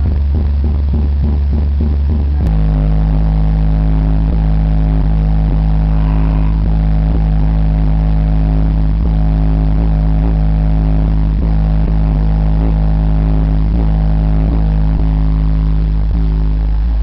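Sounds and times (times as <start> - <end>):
loud deep bass note from subwoofers: 0.0 - 17.0.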